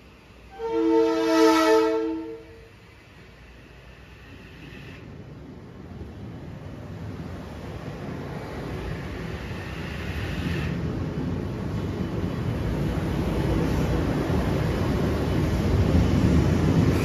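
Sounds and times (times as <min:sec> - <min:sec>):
train wheels rumbling past: 0:00.0 - 0:17.0.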